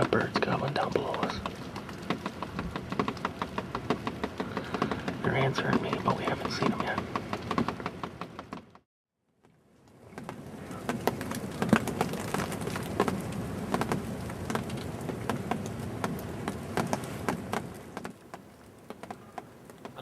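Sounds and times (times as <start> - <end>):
snow pattering: 0.0 - 8.1, 9.4 - 20.0.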